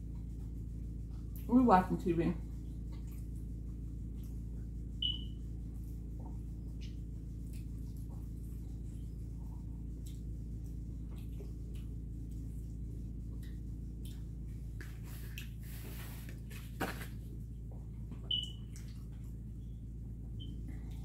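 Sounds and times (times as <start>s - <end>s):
steady low hum: 0.0s - 21.0s
soft chewing: 2.5s - 19.7s.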